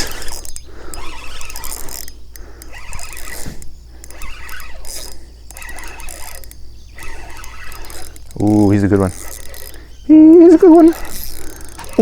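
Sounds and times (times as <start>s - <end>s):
fishing reel whirring and clicking: 0.0s - 12.0s.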